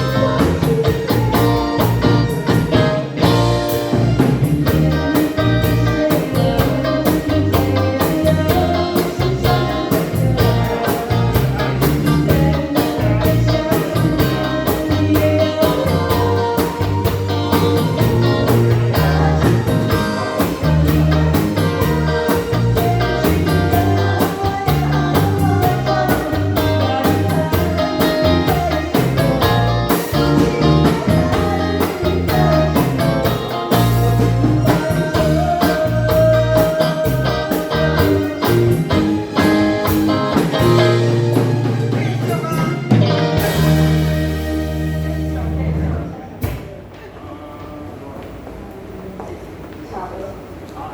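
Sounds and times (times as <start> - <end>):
person singing: 0.0 - 45.8
pop song with drums and bass: 0.0 - 46.5
guitar: 0.0 - 48.9.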